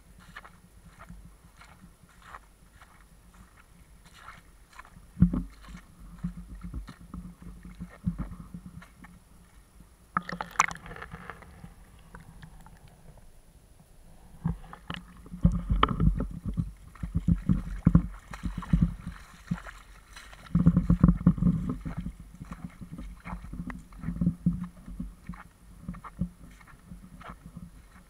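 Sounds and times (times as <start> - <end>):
muffled water sloshing: 0.2 - 28.0.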